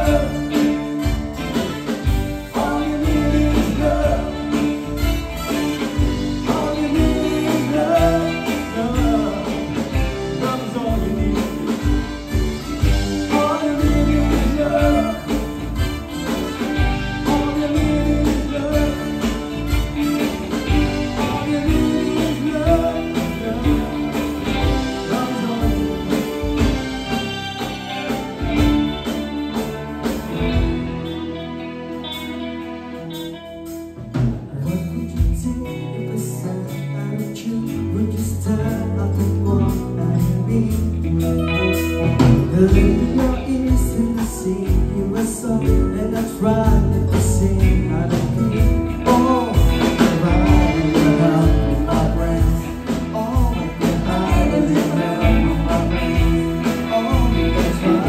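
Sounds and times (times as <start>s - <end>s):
lead vocal singing: 0.0s - 30.8s, 34.3s - 58.0s
drums: 0.0s - 58.0s
live band playing: 0.0s - 58.0s.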